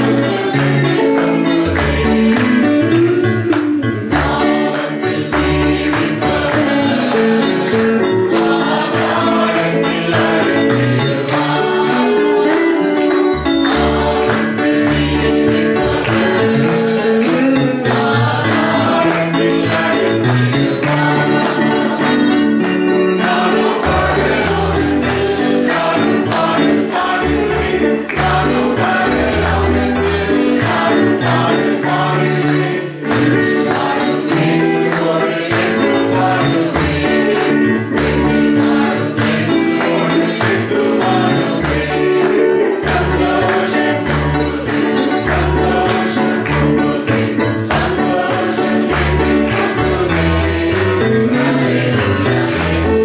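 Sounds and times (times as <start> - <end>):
group singing worship song: 0.0 - 3.4, 4.1 - 53.0
hand claps: 0.0 - 53.0
instrumental backing with bass: 0.0 - 53.0
jingling percussion: 0.0 - 53.0.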